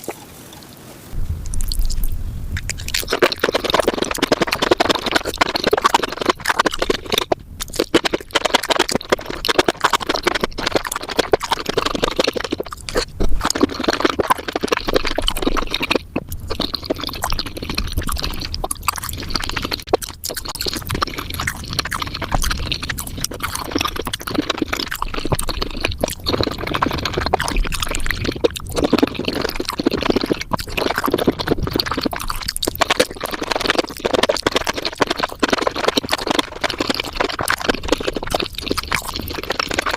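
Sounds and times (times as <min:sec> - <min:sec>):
wet chewing and slurping: 0:00.0 - 0:39.9.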